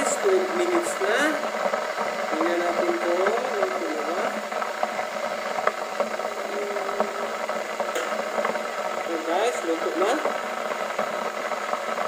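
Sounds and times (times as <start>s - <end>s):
steamer hissing: 0.0s - 12.0s.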